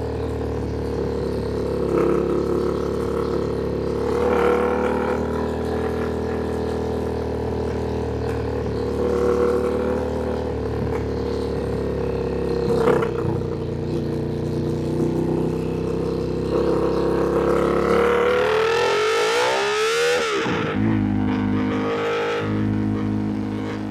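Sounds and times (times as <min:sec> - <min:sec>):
motorcycle engine cruising: 0:00.0 - 0:23.9.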